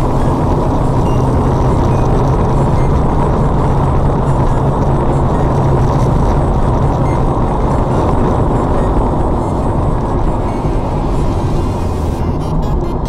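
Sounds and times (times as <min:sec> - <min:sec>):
car road and engine noise: 0:00.0 - 0:13.0
low drone: 0:00.0 - 0:13.0.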